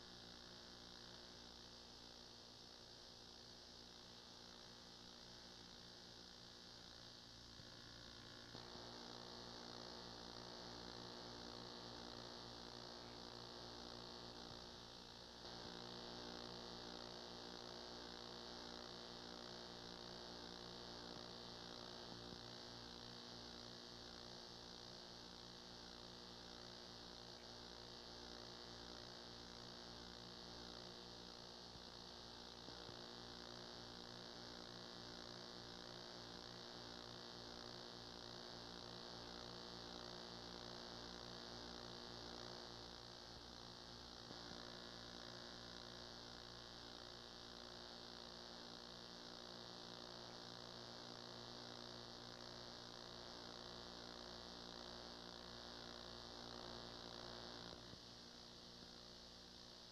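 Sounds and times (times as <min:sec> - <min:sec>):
electrical mains hum: 0:00.0 - 0:59.9
tape hiss: 0:01.2 - 0:59.9.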